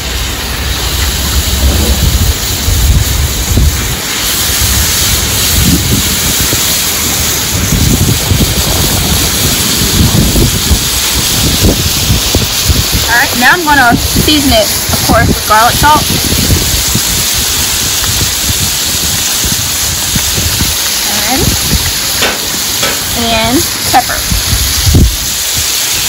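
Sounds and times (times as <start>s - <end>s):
meat sizzling on a griddle: 0.0s - 26.0s
wind buffeting microphone: 0.0s - 26.0s.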